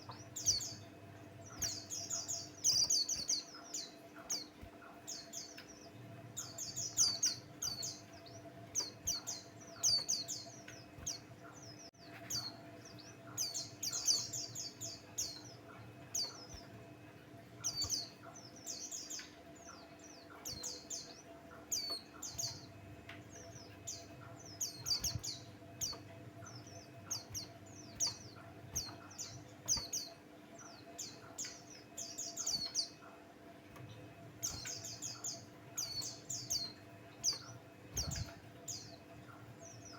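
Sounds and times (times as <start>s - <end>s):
bird twittering chirps and trills: 0.0s - 39.9s
faint low hum: 0.0s - 39.9s.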